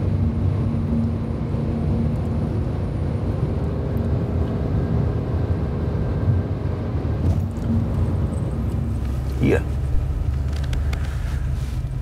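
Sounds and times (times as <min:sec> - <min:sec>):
engine and tyre rumble: 0:00.0 - 0:12.0.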